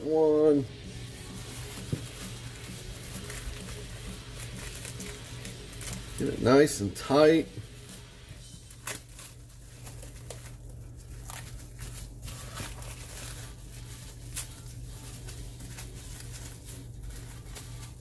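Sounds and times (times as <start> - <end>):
plastic cling wrap crinkling: 0.0 - 18.0.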